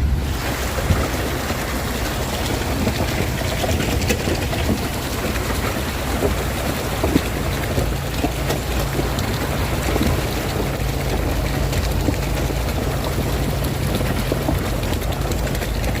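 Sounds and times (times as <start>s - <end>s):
car engine running: 0.0s - 16.0s
rain hitting vehicle: 0.0s - 16.0s.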